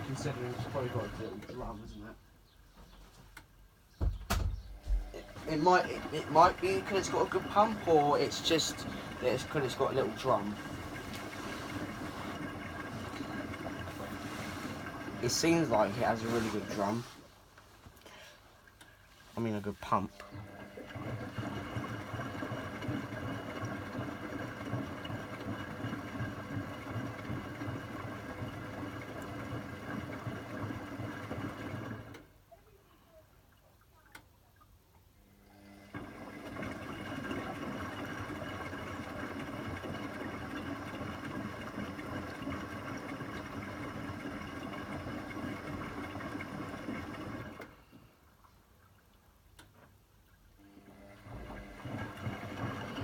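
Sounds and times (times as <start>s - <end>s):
washing machine humming: 0.0s - 53.0s.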